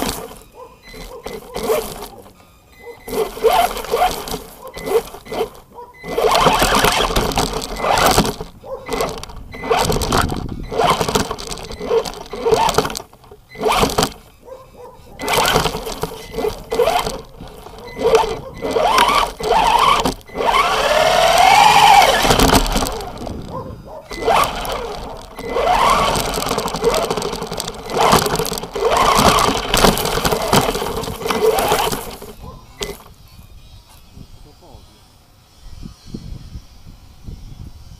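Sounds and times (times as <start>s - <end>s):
chassis knocks and rattles: 0.0s - 33.2s
toy car motor whining: 0.0s - 34.9s.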